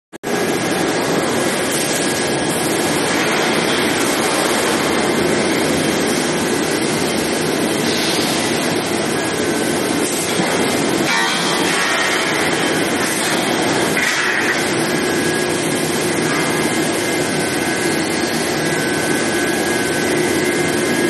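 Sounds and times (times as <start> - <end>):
factory machine noise: 0.2 - 21.0.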